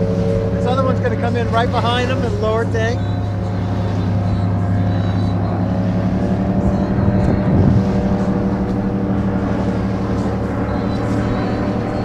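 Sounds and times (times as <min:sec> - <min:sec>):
fighter jet flying overhead: 0:00.0 - 0:12.0.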